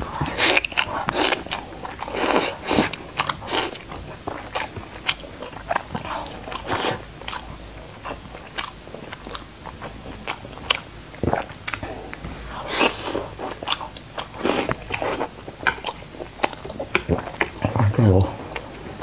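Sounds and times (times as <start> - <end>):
biting and chewing mouth sounds: 0.0 - 19.0.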